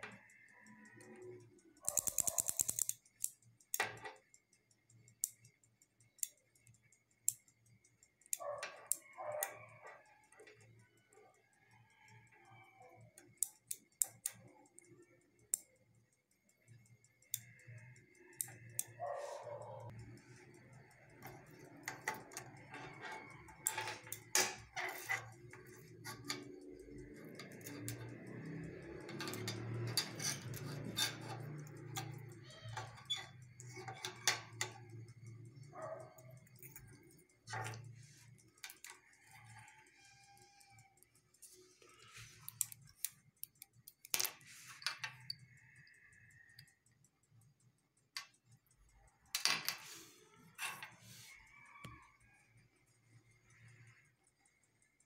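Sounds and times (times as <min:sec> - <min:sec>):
switch parts clicking and knocking: 0:00.0 - 0:51.0.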